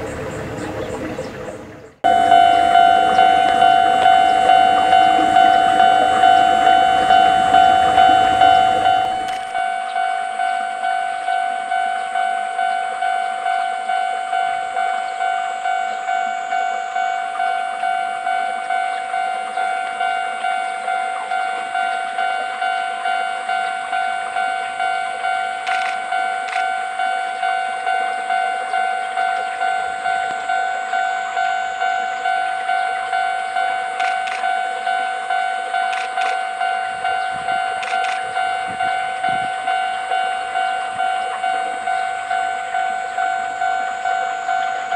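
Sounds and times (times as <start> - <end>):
level-crossing warning bell ringing: 0.0 - 44.9.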